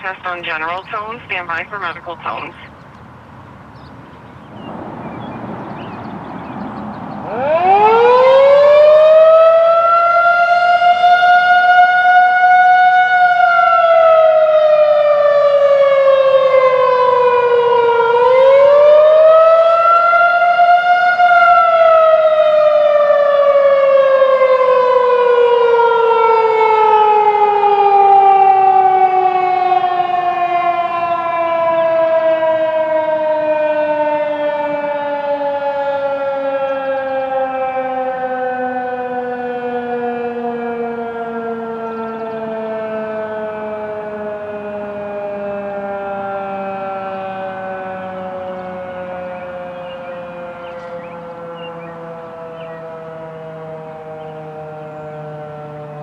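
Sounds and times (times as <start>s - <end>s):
electromechanical siren wailing: 6.6s - 56.0s.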